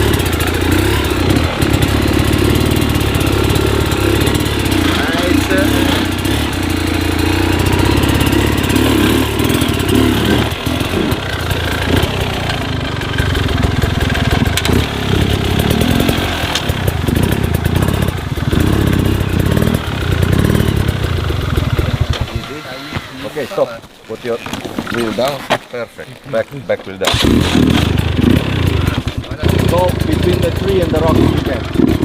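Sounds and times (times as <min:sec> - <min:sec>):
dirt bike engine revving: 0:00.0 - 0:23.8, 0:27.0 - 0:32.0.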